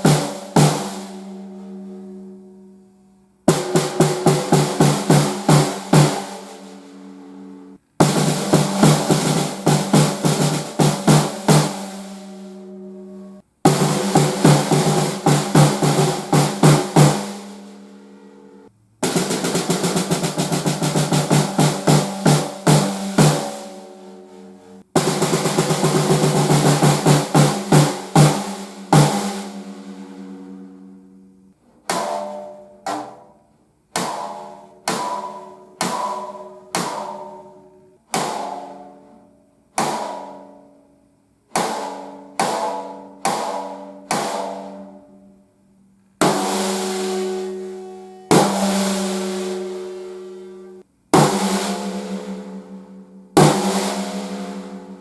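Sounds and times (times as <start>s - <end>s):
snare drum rolls and strokes: 0.0s - 1.6s, 3.5s - 12.8s, 13.6s - 18.1s, 19.0s - 33.2s, 34.0s - 38.8s, 41.6s - 45.1s, 46.2s - 55.0s.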